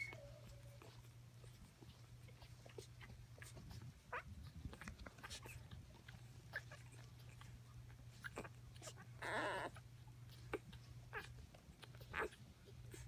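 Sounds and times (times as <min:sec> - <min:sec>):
puppies squeaking and whimpering: 0:00.0 - 0:04.4, 0:05.2 - 0:13.0
low steady hum: 0:00.0 - 0:13.0.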